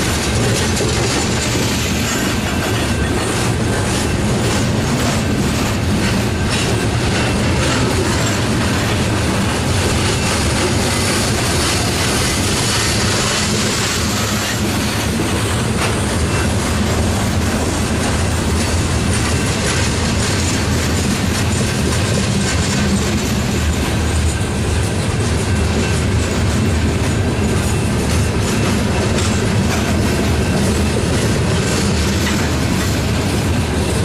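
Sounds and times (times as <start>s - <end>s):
freight train wheels on rails: 0.0s - 34.0s.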